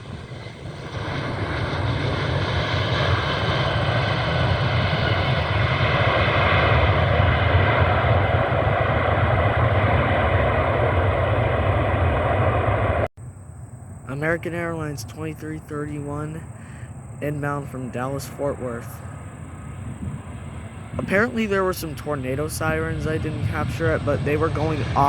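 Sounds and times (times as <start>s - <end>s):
jet engines passing close: 0.0s - 25.0s.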